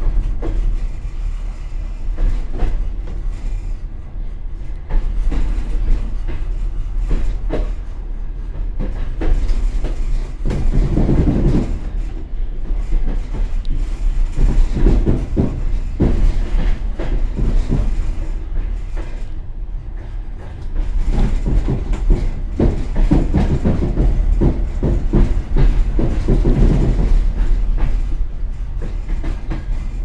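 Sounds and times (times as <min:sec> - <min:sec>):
train carriage rumble: 0:00.0 - 0:30.0
wheels clattering over rails: 0:04.6 - 0:30.0.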